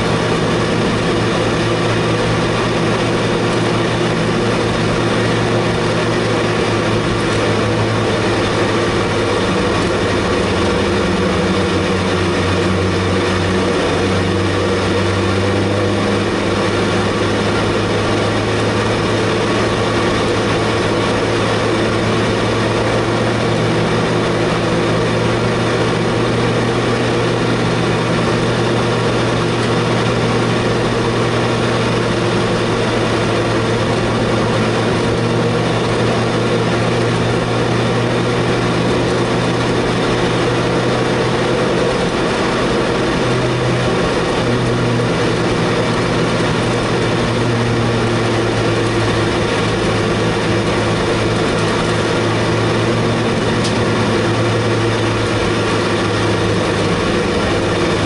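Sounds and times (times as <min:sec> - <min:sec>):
race car engine running steadily: 0:00.0 - 0:58.0.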